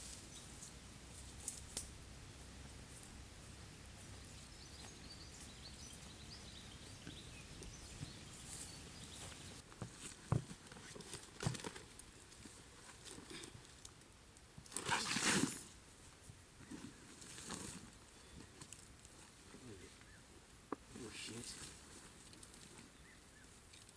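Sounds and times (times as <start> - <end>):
faint outdoor hiss: 0.0 - 23.9.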